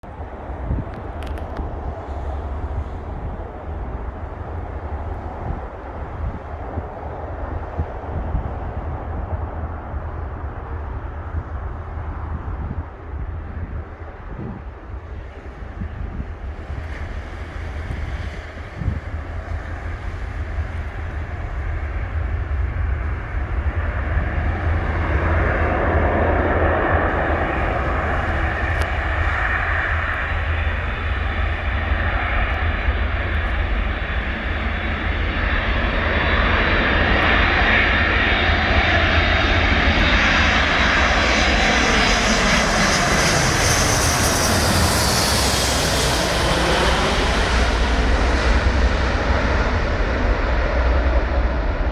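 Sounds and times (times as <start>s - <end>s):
jet engines roaring: 0.1s - 51.9s.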